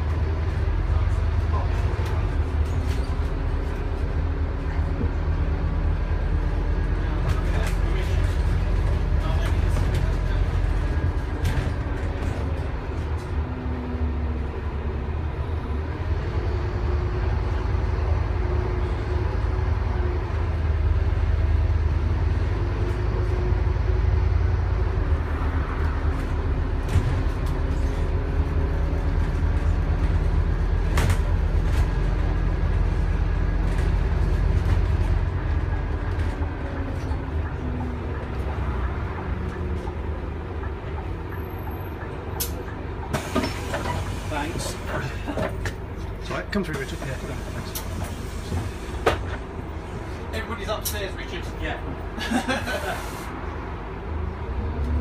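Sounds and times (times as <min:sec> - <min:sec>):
bus diesel engine pulling uphill: 0:00.0 - 0:55.0.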